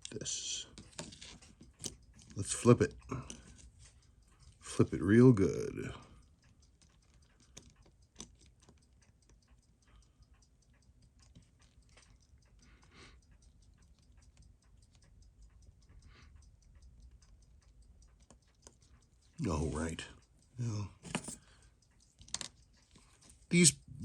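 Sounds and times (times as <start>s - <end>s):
low room hum: 0.0s - 24.0s
tweezers clicking on watch parts: 0.7s - 23.7s.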